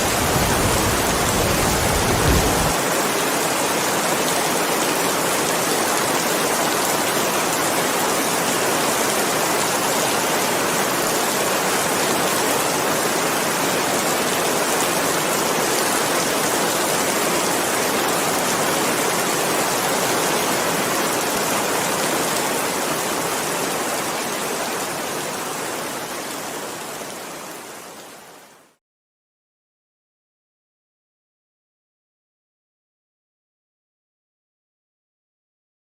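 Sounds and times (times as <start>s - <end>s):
heavy rain: 0.0s - 28.8s.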